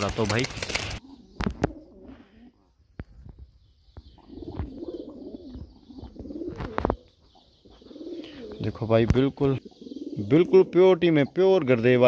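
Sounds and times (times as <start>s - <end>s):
pigeons cooing: 0.1s - 2.8s, 3.8s - 12.0s.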